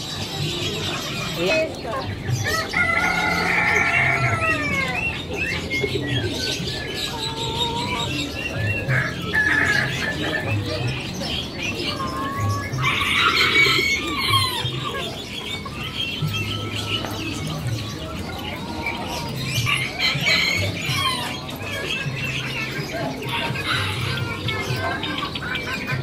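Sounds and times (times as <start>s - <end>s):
caged birds chirping: 0.0s - 26.0s
music playing: 0.0s - 26.0s.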